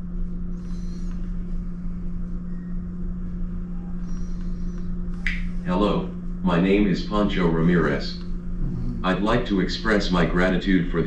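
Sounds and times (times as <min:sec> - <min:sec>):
low rumble: 0:00.0 - 0:10.9
steady low hum: 0:00.0 - 0:11.0.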